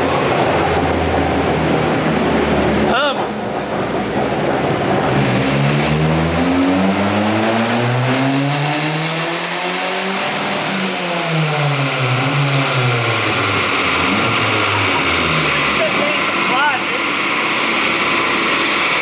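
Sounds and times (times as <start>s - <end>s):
car engine revving at full throttle: 0.0s - 19.0s.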